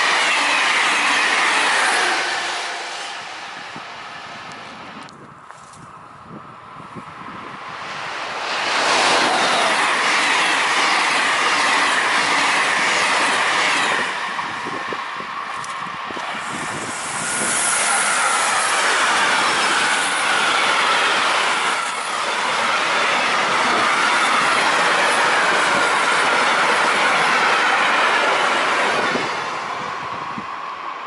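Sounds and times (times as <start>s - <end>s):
freight train wheels on rails: 0.0s - 31.0s.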